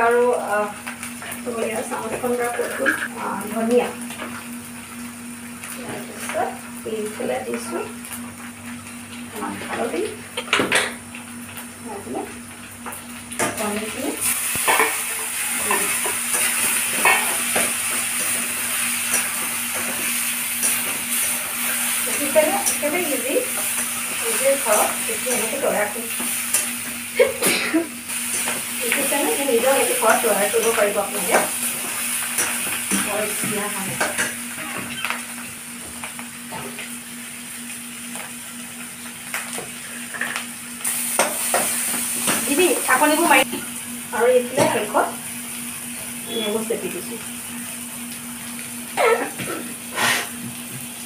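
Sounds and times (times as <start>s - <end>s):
food sizzling in oil: 0.0s - 51.0s.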